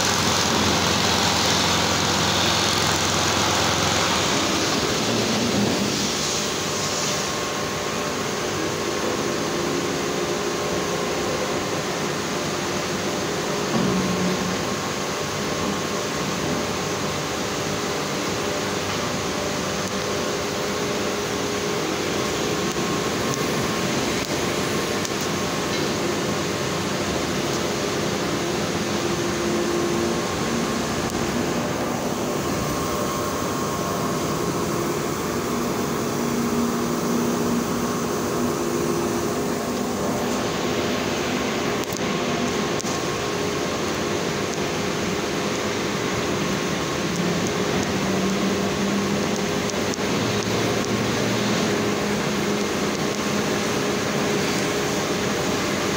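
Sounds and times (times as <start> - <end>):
machinery and air noise: 0.0 - 55.9.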